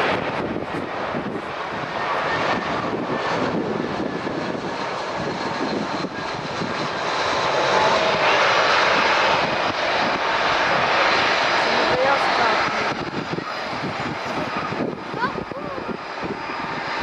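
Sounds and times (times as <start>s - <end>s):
jet engines rushing with whine: 0.0s - 17.0s.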